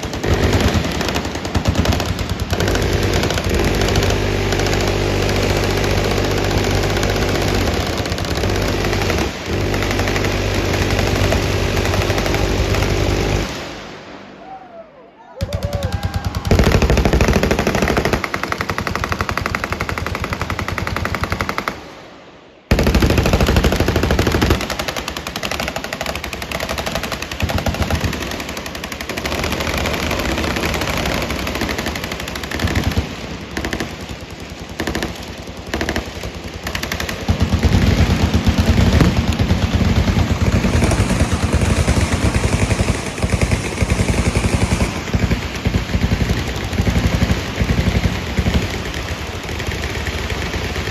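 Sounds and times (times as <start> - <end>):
rapid automatic gunfire: 0.0 - 14.3, 15.4 - 50.9.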